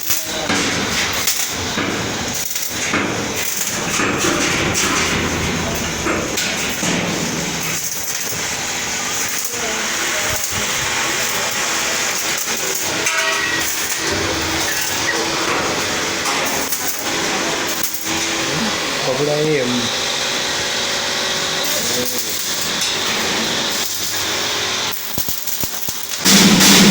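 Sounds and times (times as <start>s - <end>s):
electric welding hiss: 0.0s - 26.9s.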